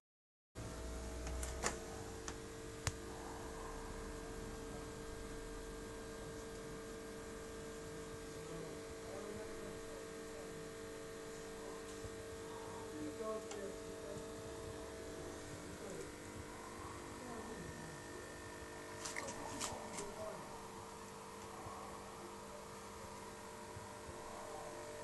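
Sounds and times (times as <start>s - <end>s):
aquarium equipment electrical hum: 0.6s - 25.0s.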